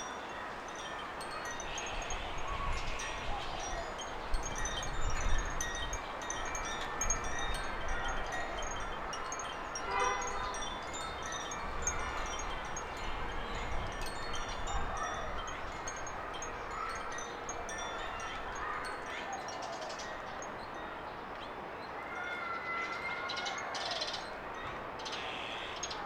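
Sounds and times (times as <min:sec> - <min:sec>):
wind chime tinkling: 0:00.0 - 0:21.5.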